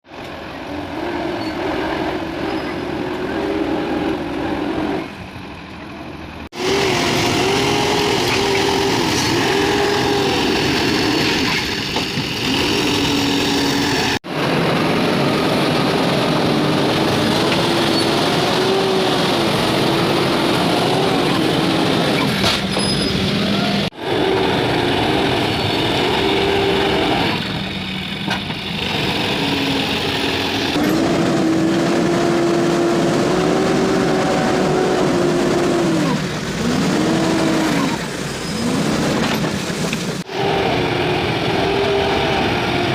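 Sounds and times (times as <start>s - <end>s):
diesel engine working: 0.1s - 42.9s.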